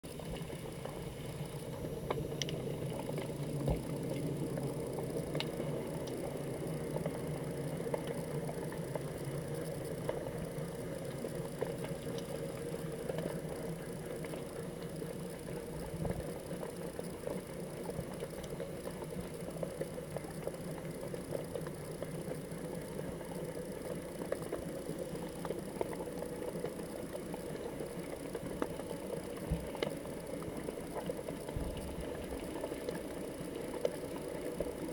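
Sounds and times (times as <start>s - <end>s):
small clicks and crackles: 0.1s - 34.9s.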